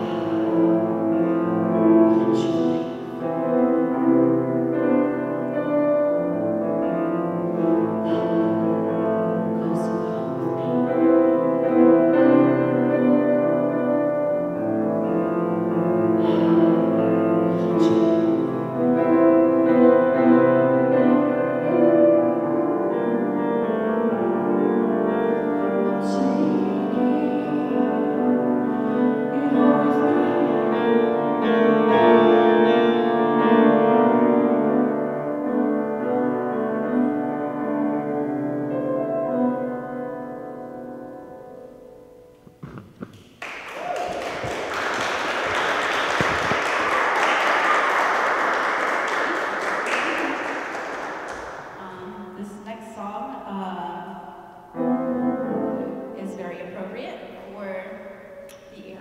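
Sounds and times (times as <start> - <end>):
grand piano chords: 0.0 - 59.0.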